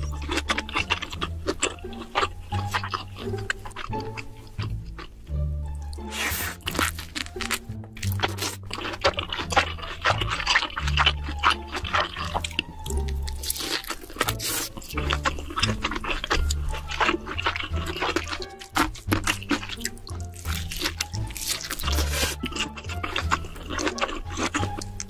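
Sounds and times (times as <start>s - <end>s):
background music with bass line: 0.0s - 25.0s
wet chewing and smacking: 0.0s - 25.0s.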